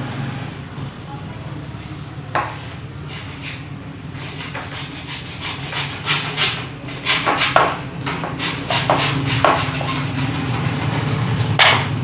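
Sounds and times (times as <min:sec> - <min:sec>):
steady low hum: 0:00.0 - 0:12.0
hand tool scraping: 0:01.9 - 0:11.8.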